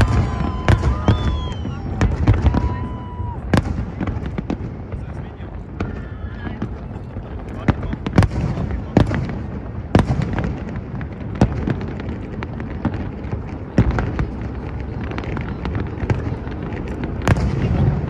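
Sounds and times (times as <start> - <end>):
fireworks bangs: 0.0 - 18.0
fireworks crackle and rumble: 0.0 - 18.0.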